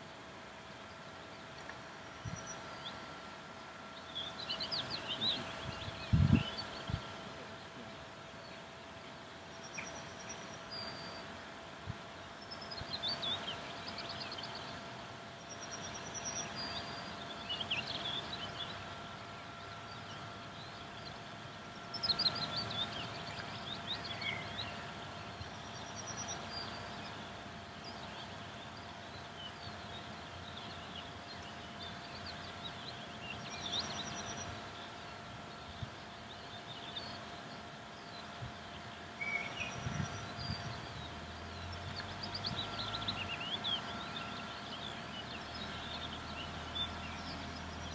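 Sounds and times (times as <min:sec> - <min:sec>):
faint steady hum: 0:00.0 - 0:47.9
songbirds singing: 0:00.0 - 0:47.9.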